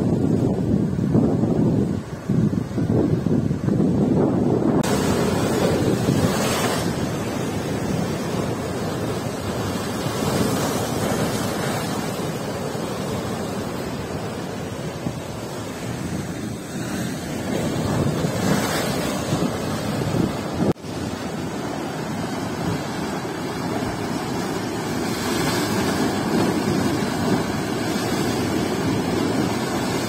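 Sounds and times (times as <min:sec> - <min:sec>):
waves breaking against rocks: 0:00.0 - 0:30.0
wind buffeting microphone: 0:00.0 - 0:30.0.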